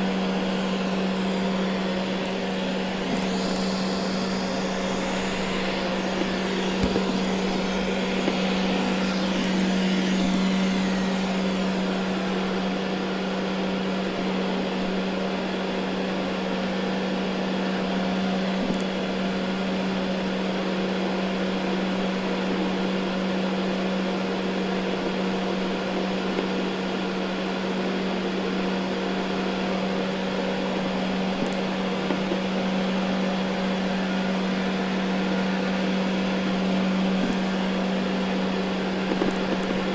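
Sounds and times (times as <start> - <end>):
robot vacuum motor drone: 0.0 - 15.2, 16.2 - 39.9.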